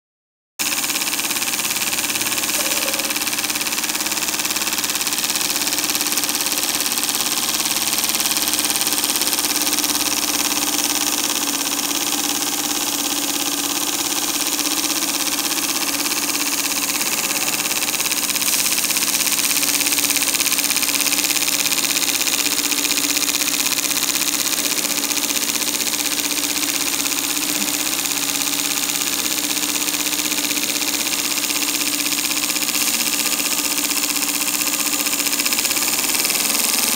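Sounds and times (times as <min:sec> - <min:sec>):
steam engine running: 0:00.6 - 0:36.9.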